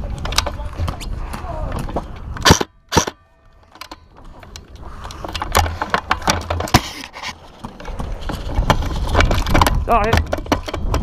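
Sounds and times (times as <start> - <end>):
sharp clicks and knocks: 1.8 - 11.0.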